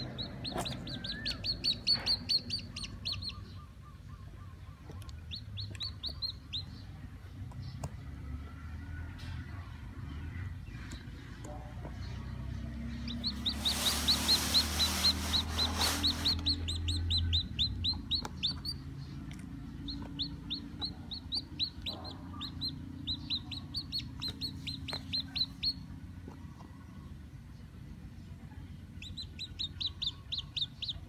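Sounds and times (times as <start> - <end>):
chick peeping: 0.0 - 8.0, 9.1 - 27.2, 28.1 - 31.0.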